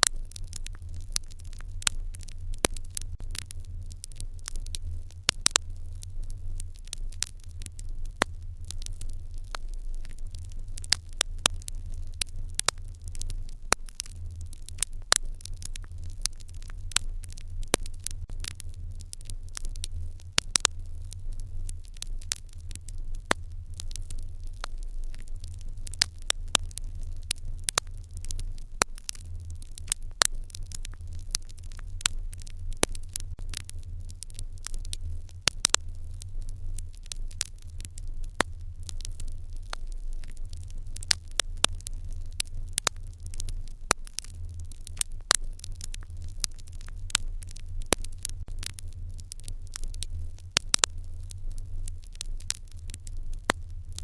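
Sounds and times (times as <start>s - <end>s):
hearth fire crackling and popping: 0.0s - 54.0s
low fire rumble: 0.0s - 54.0s.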